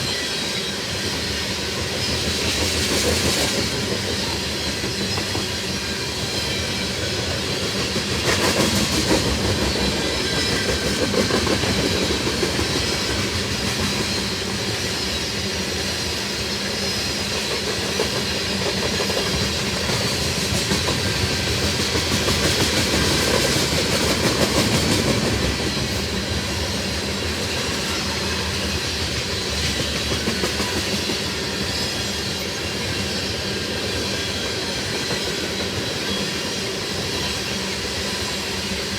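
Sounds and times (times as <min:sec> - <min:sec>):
freight train rumble: 0:00.0 - 0:38.9.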